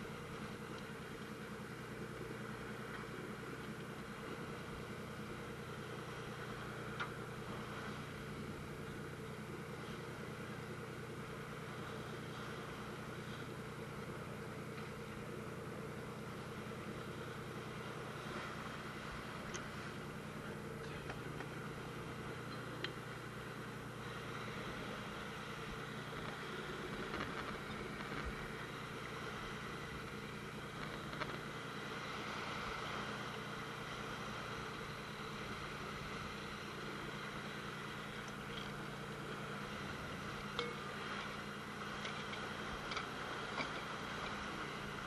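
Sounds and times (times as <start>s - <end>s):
boat engine humming: 0.0s - 45.0s
wind: 0.0s - 45.0s.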